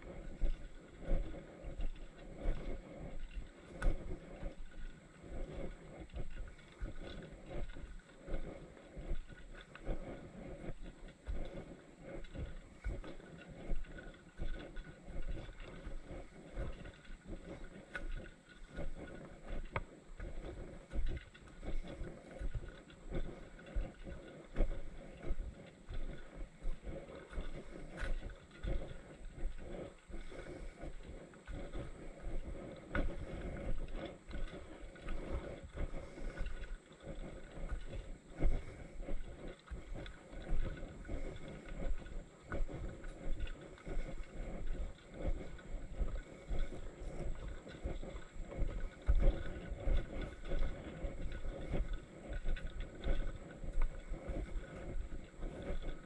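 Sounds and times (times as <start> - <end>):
footsteps on a trail: 0.0 - 56.0
wind on microphone: 0.0 - 56.0.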